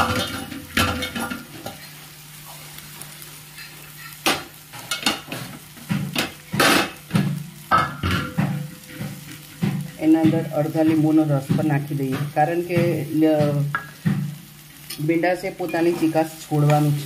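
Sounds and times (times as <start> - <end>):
spatula scraping frying pan: 0.0 - 17.0.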